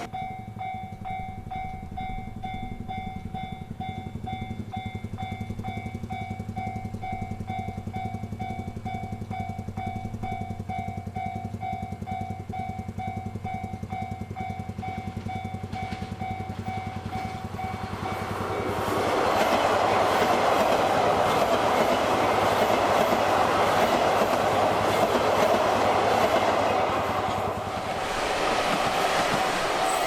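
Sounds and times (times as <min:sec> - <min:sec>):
level-crossing warning bell: 0:00.0 - 0:27.9, 0:29.7 - 0:30.0
oncoming train noise: 0:00.0 - 0:30.0.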